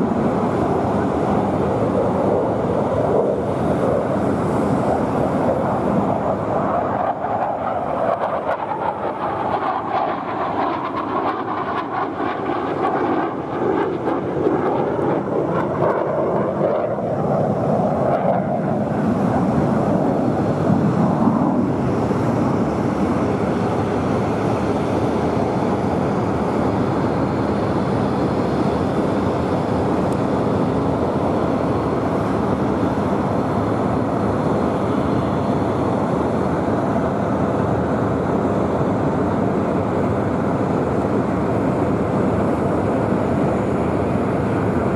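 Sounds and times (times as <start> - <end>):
jet engine roar: 0.0 - 44.9.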